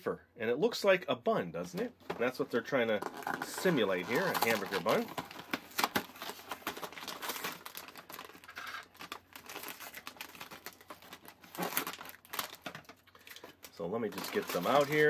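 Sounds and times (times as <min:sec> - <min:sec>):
cardboard box and packaging crinkling: 0:02.0 - 0:15.0.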